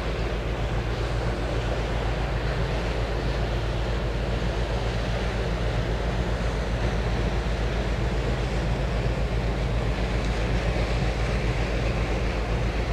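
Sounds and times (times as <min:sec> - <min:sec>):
wind noise: 0:00.0 - 0:12.9.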